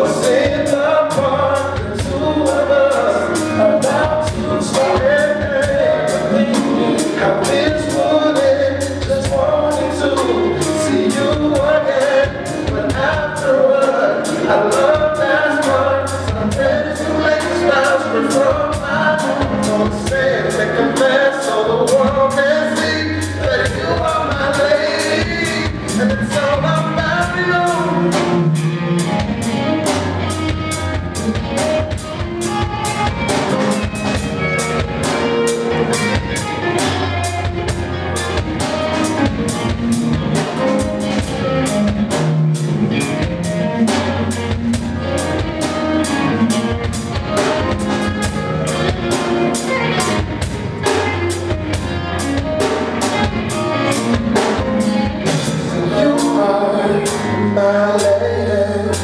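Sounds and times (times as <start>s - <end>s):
drum kit beat: 0.0s - 59.0s
live band playing: 0.0s - 59.0s.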